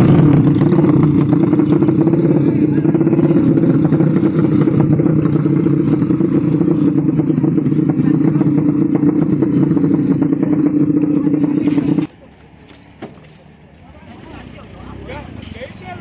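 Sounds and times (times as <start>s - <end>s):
motorcycle engine crackling: 0.0s - 14.2s.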